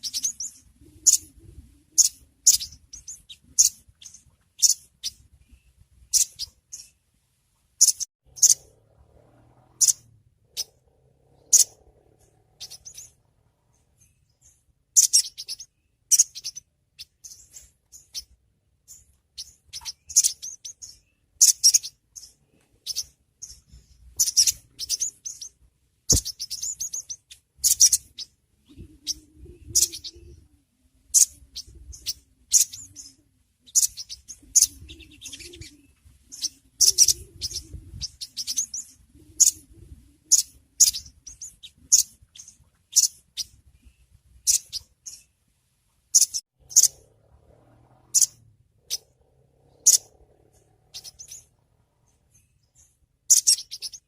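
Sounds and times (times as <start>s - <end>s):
sunbird high chirps: 0.0s - 7.0s, 7.8s - 45.4s, 46.1s - 54.0s.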